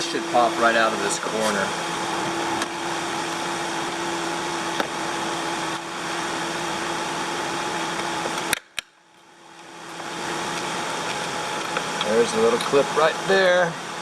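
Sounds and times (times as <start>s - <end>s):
electric fan whooshing and humming: 0.0s - 14.0s.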